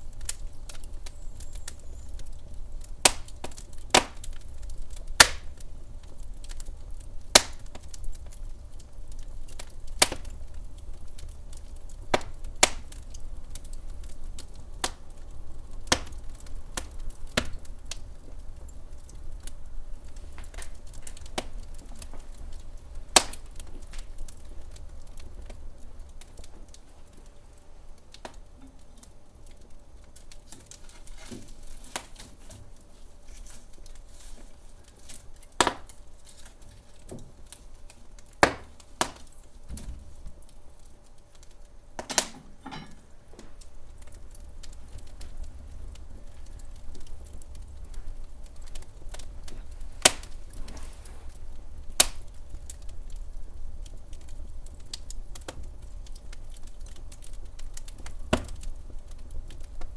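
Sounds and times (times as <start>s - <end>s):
fire popping loudly: 0.0s - 59.9s
wood fire crackling: 0.0s - 59.9s.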